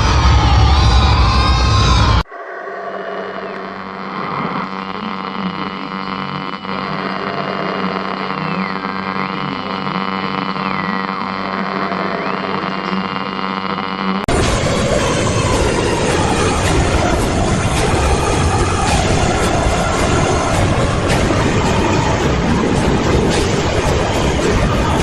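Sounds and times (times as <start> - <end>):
droning buzzing hum: 0.0 - 25.0.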